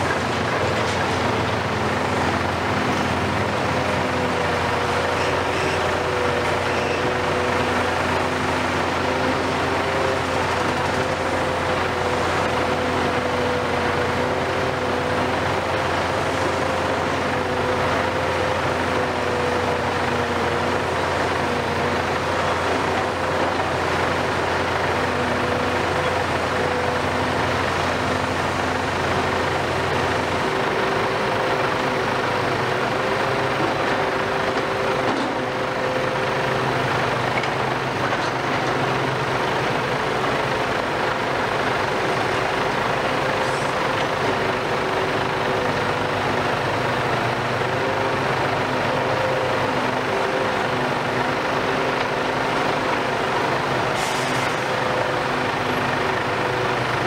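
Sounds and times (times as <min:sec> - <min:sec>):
excavators running: 0:00.0 - 0:57.0.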